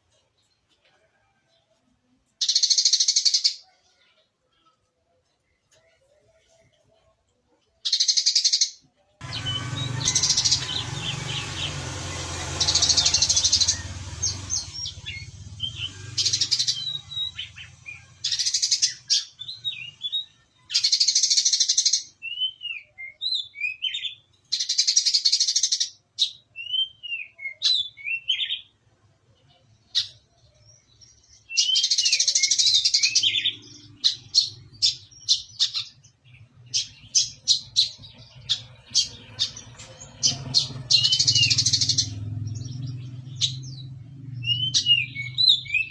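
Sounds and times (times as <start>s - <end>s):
sunbird singing: 7.9s - 45.9s.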